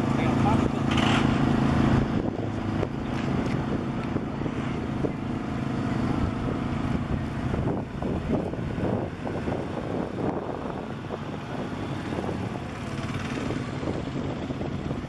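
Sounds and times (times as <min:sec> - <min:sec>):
low engine hum: 0:00.0 - 0:15.0
traffic noise: 0:00.0 - 0:15.0.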